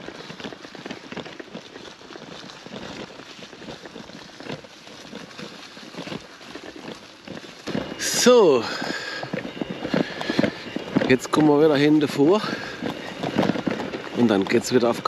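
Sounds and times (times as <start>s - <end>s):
bicycle tyres on rough track: 0.0s - 15.0s.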